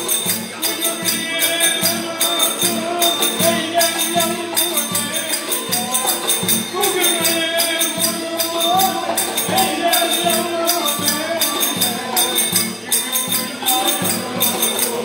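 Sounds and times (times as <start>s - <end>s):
large drum beat: 0.2s - 15.0s.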